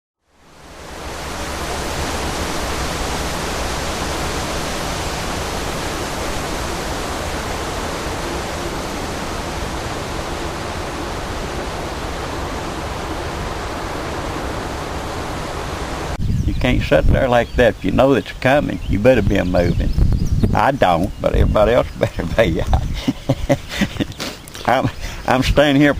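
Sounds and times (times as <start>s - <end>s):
wind rushing over microphone: 0.4s - 25.9s.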